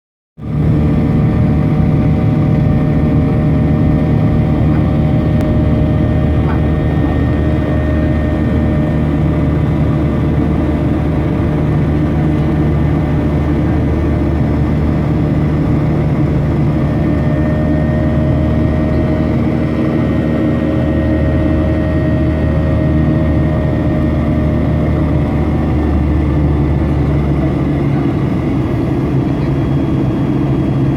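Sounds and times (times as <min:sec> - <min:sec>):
jet engine drone and air rush: 0:00.5 - 0:30.9.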